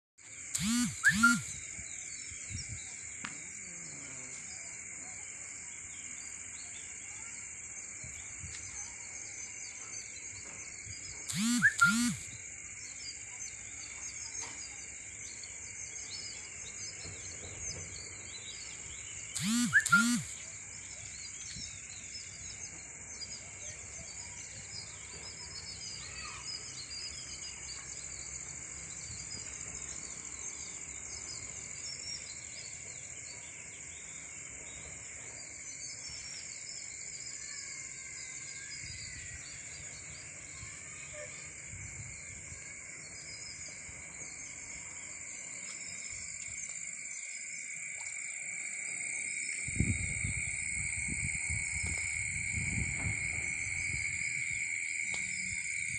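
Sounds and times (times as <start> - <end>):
insect chirps: 0.2 - 55.9
insects trilling: 0.2 - 55.9.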